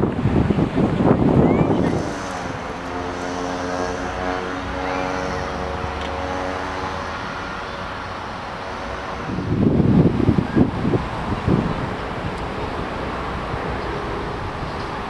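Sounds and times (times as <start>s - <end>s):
distant engine droning: 0.0s - 15.0s
wind buffeting microphone: 0.0s - 15.0s.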